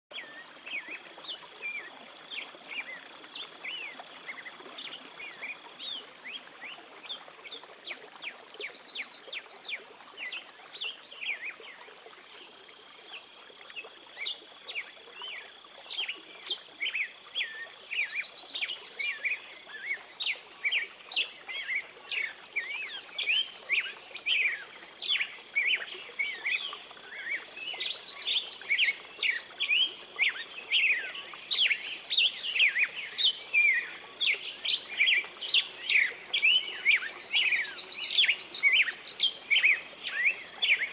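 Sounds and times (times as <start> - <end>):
songbirds chirping: 0.1 - 40.9.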